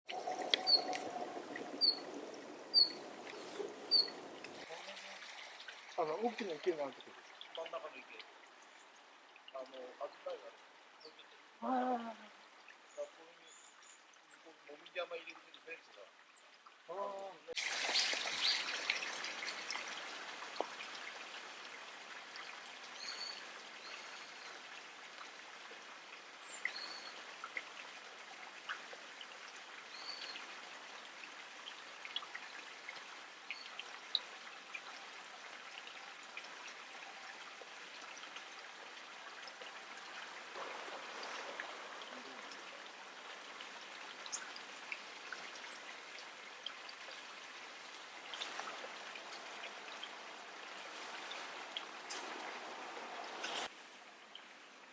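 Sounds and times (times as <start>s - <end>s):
water trickling: 0.1s - 54.9s.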